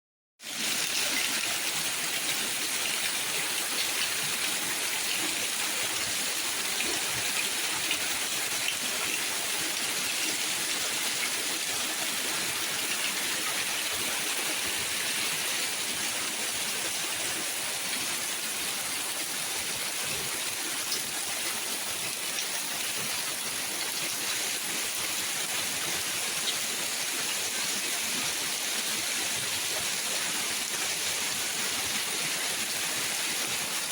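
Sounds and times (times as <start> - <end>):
rushing hiss of water: 0.4 - 33.9.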